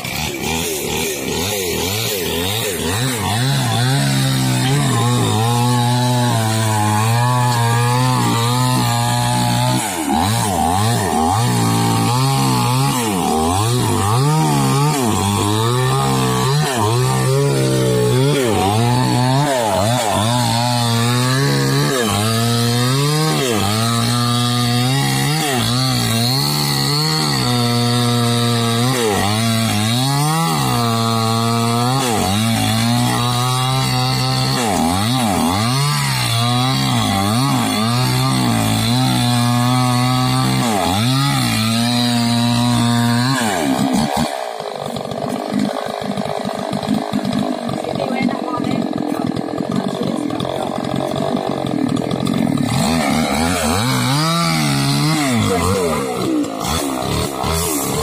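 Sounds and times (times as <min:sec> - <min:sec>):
chainsaw cutting into tree trunk: 0:00.0 - 0:58.0.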